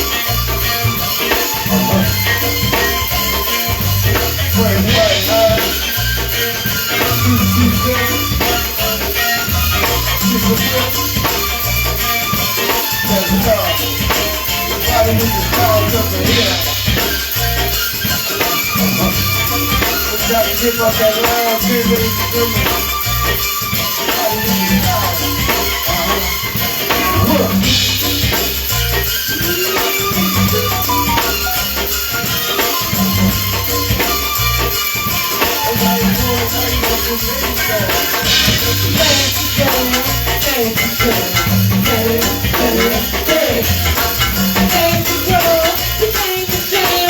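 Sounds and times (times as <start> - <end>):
live band playing instrumental: 0.0 - 47.0.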